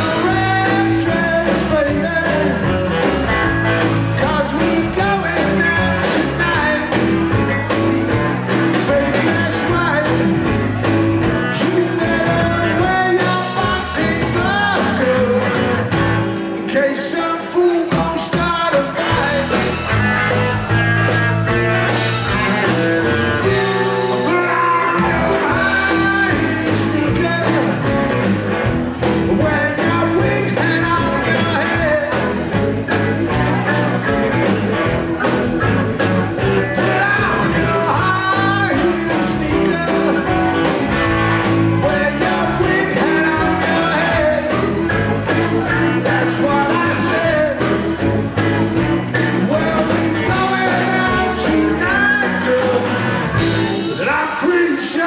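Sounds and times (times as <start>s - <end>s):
person singing lead vocal: 0.0s - 3.1s, 4.0s - 7.8s, 8.4s - 20.0s, 22.1s - 28.2s, 29.0s - 34.5s, 36.4s - 48.0s, 49.0s - 55.0s
driving drum beat: 0.0s - 16.5s, 17.8s - 54.4s
rockabilly band playing: 0.0s - 55.0s.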